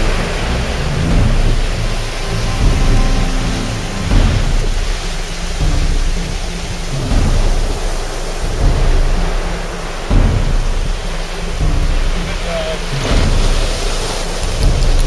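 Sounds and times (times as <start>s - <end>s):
heavy low rumble: 0.0s - 15.0s
ocean surf breaking: 0.0s - 15.0s.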